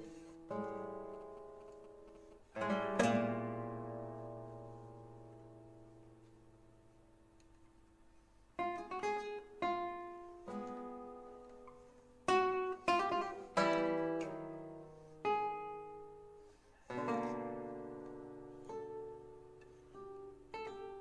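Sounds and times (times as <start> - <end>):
solo guitar playing: 0.0 - 7.4, 8.6 - 21.0.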